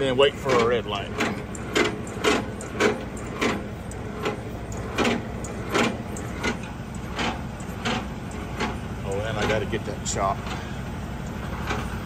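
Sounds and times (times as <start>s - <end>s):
crank handle clunking: 0.0s - 12.0s
truck engine idling: 0.0s - 12.0s.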